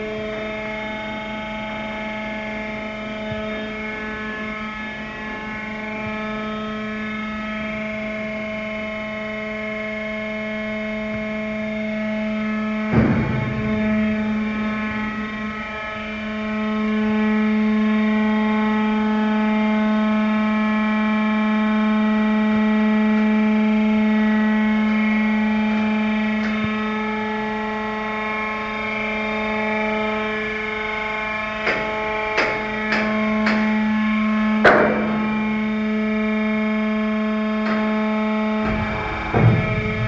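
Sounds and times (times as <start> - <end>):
machine hum: 0.0 - 40.0.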